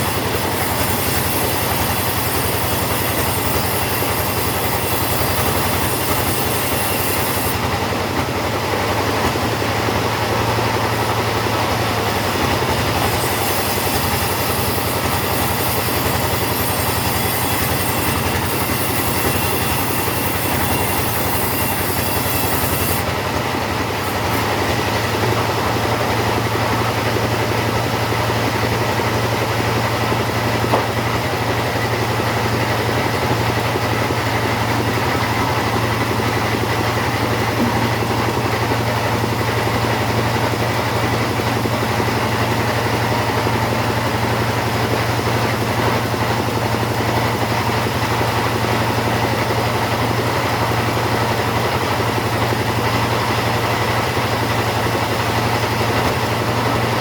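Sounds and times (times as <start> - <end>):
chainsaw cutting a log: 0.0 - 57.0.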